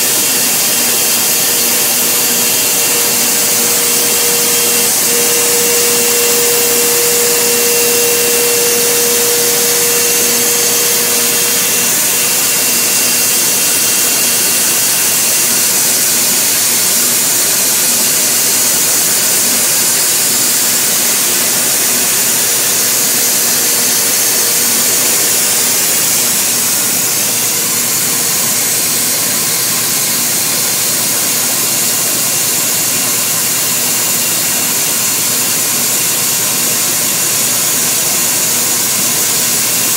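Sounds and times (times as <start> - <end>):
steady hum: 0.0 - 32.7
cnc router hiss and whine: 0.0 - 39.9.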